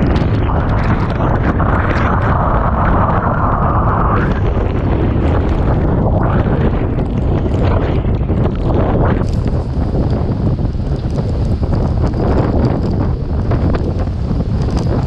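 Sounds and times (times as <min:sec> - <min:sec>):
driving rain hiss: 0:00.0 - 0:15.0
wind buffeting microphone: 0:00.0 - 0:15.0.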